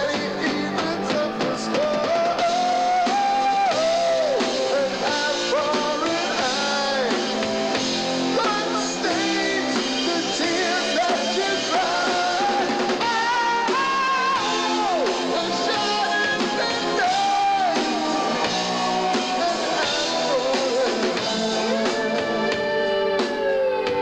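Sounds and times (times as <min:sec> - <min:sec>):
rock band playing live: 0:00.0 - 0:24.0.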